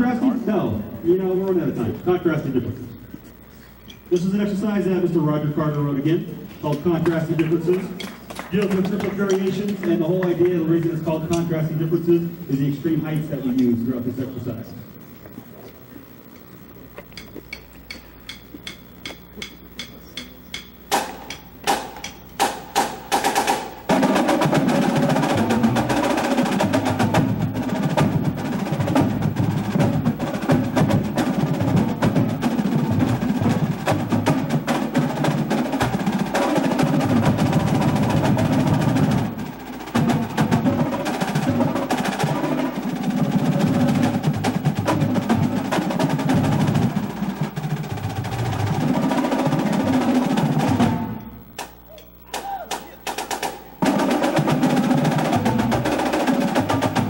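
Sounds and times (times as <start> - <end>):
snare drums playing: 4.1 - 14.1, 17.2 - 57.0.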